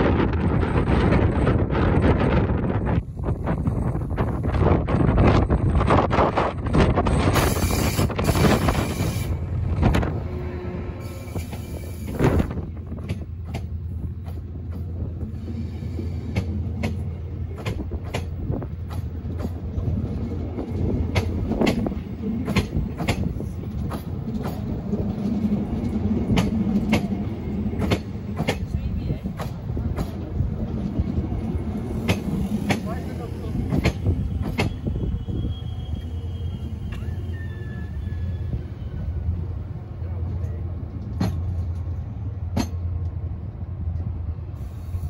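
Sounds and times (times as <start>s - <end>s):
diesel locomotive passing: 0.0s - 45.0s
train coaches rolling past: 0.0s - 45.0s.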